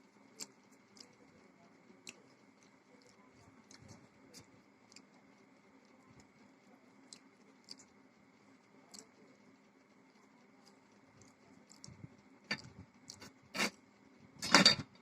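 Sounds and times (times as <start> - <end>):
soft chewing: 0.0 - 14.4.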